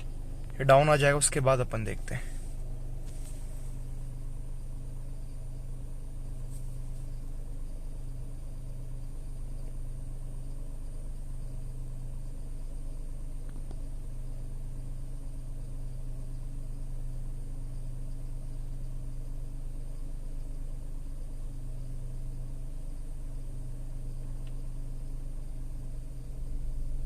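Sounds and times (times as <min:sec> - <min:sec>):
car engine idling: 0:00.0 - 0:27.0
faint high whine: 0:00.0 - 0:27.0.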